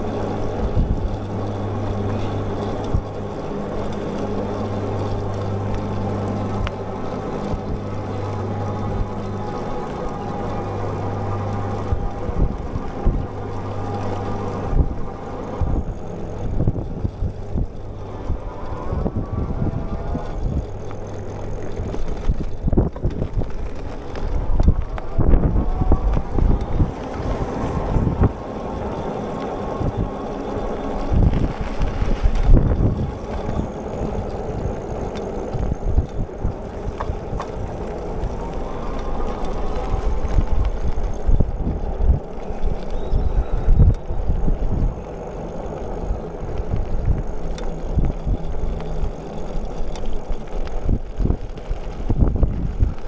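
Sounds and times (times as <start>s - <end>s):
bicycle rolling hum: 0.0s - 53.0s
faint whine: 0.0s - 53.0s
wind buffeting microphone: 0.0s - 53.0s.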